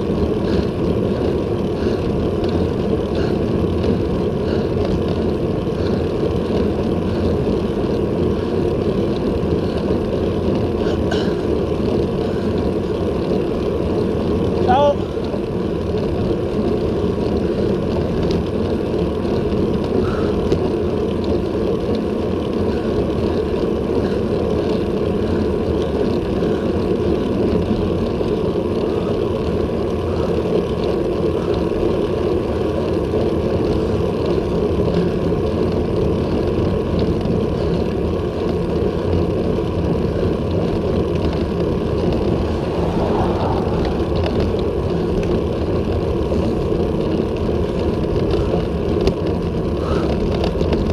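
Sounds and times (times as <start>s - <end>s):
low road rumble: 0.0s - 50.9s
wind rush on microphone: 0.0s - 50.9s.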